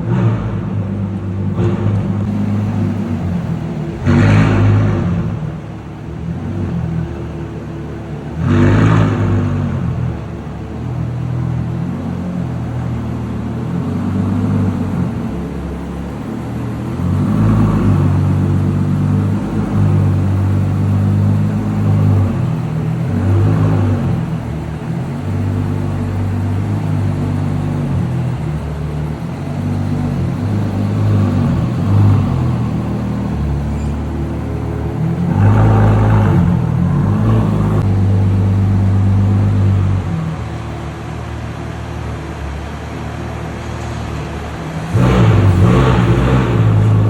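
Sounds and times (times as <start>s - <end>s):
car engine revving through gears: 0.0s - 47.0s.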